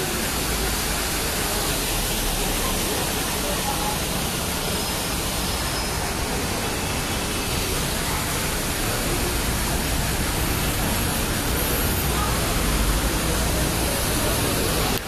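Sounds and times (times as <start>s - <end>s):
fountain water splashing: 0.0s - 15.0s
street traffic: 0.0s - 15.0s.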